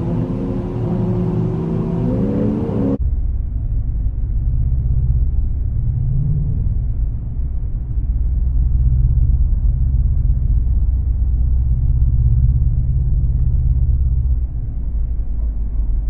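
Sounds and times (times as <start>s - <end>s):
engine running hard: 0.0s - 16.0s.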